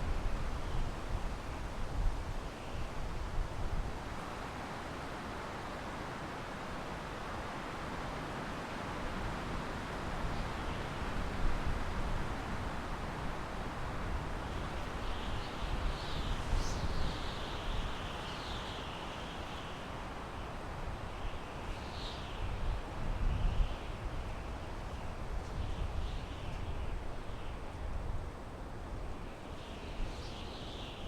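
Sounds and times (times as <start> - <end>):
wind through pine trees: 0.0 - 31.0.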